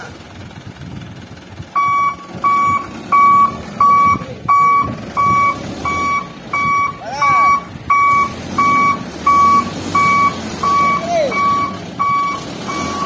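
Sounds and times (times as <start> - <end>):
diesel truck engine: 0.0 - 13.0
reversing alarm beeping: 1.8 - 13.0.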